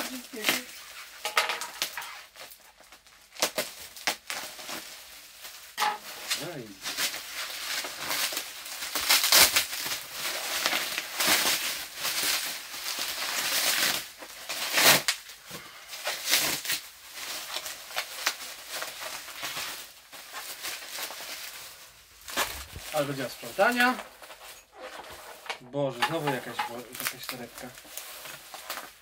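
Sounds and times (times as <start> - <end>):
plastic packaging crinkling: 0.0 - 29.0.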